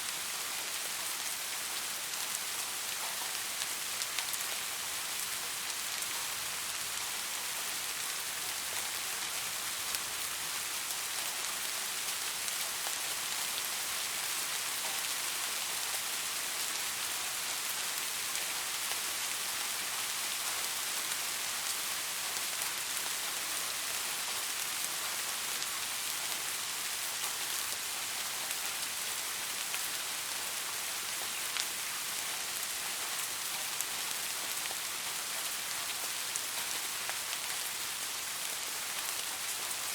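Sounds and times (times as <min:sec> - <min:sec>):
soft steady rain: 0:00.0 - 0:39.9.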